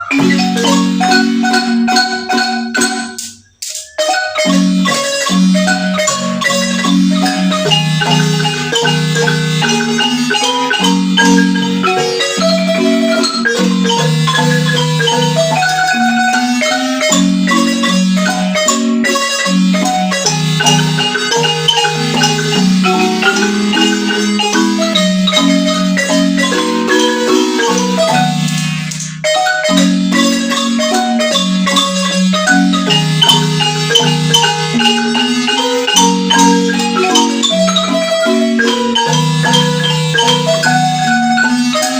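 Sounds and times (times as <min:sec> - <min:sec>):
marimba melody: 0:00.0 - 0:41.9.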